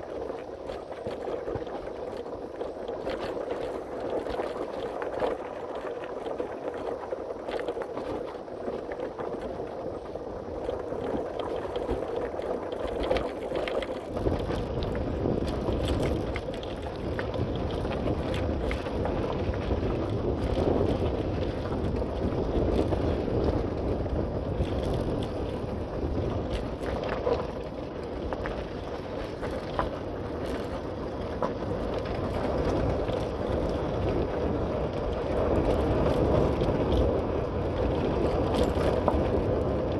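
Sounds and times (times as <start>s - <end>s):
bike rolling and rattling: 0.0s - 39.9s
low wind rumble on microphone: 0.0s - 39.9s
wind: 0.0s - 39.9s.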